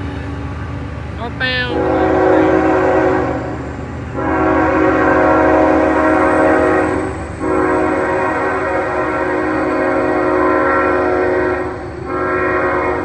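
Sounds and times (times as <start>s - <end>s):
low diesel locomotive rumble: 0.0s - 13.0s
locomotive air horn blasts: 1.5s - 13.0s.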